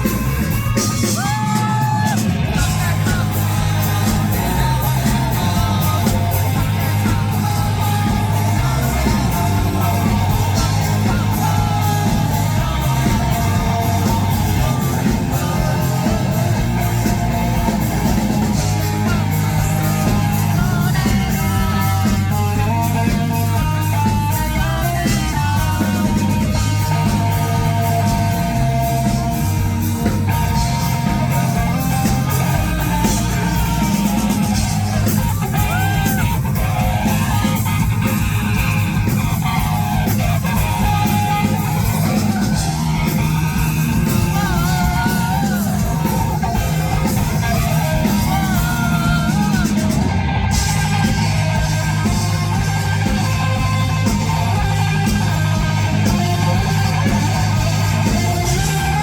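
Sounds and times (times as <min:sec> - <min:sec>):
electric guitars: 0:00.0 - 0:59.0
live rock band playing: 0:00.0 - 0:59.0
person singing: 0:00.0 - 0:59.0.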